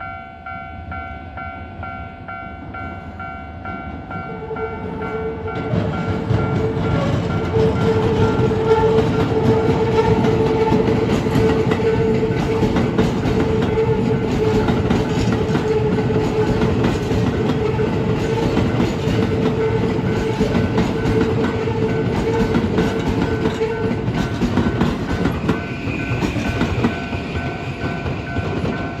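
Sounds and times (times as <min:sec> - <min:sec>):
train wheels clattering over rails: 0:04.9 - 0:29.0.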